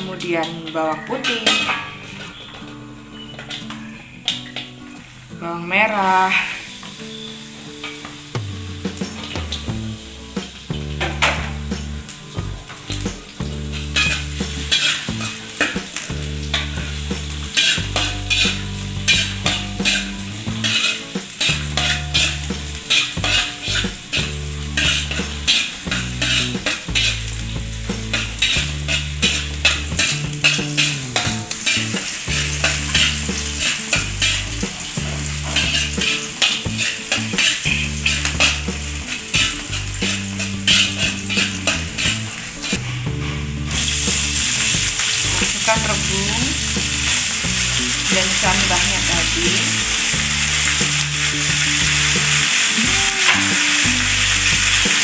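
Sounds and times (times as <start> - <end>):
metal spatula scraping a pan: 0.0 - 5.2, 9.0 - 55.0
shallots sizzling in hot oil: 0.0 - 55.0.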